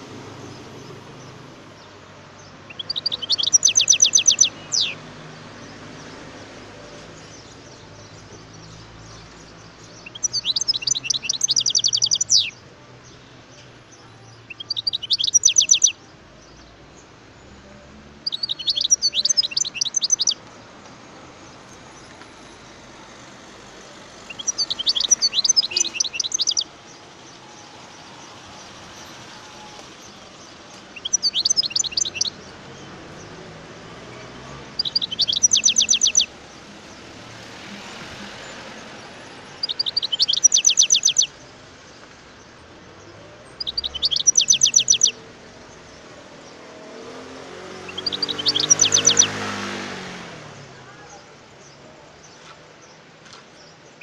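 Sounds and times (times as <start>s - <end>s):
goldfinch twittering song: 0.1s - 22.7s, 23.5s - 50.1s.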